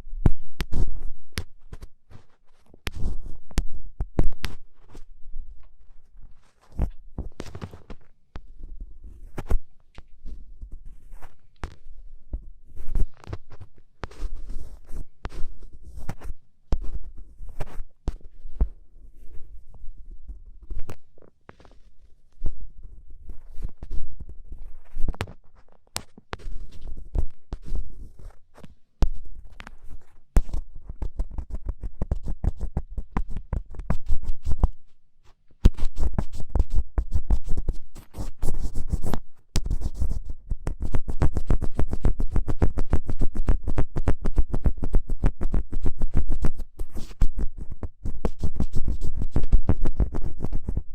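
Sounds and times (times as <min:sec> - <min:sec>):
ear pick scratching microphone: 0:00.0 - 0:34.8, 0:35.6 - 0:50.9.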